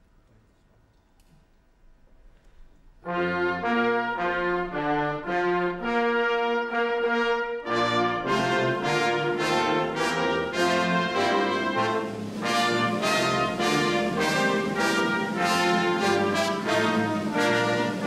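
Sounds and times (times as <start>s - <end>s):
brass band chords: 3.0s - 18.0s.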